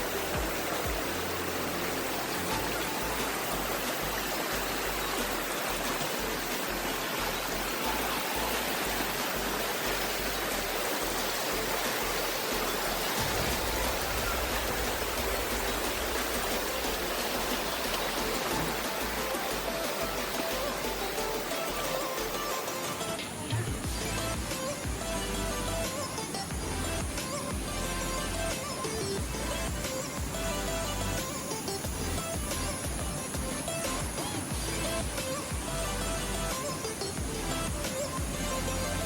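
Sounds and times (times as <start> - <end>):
rushing river water: 0.0 - 39.0.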